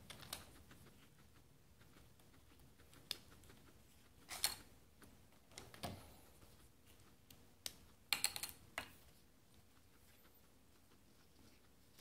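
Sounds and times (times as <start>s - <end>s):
guinea pig chewing lettuce: 0.0s - 8.1s, 9.0s - 12.0s.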